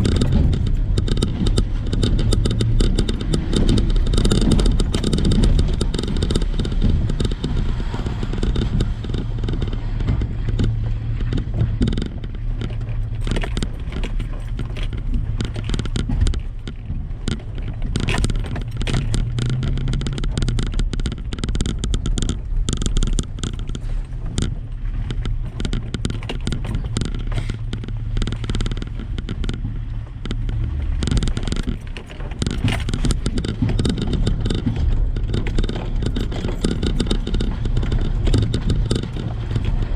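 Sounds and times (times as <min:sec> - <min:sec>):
truck engine at low revs: 0:00.0 - 0:39.9
vehicle clatter and knocks: 0:00.0 - 0:39.9.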